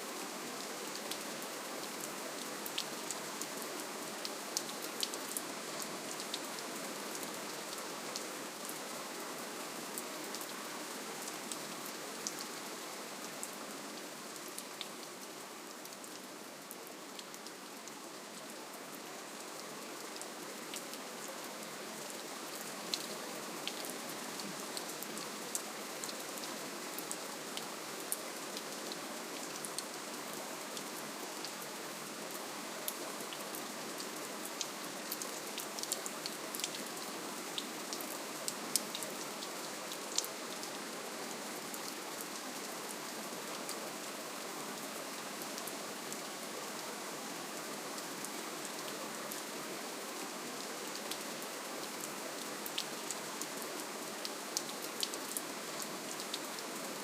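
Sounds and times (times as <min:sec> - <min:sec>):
gentle rain hissing: 0:00.0 - 0:57.0.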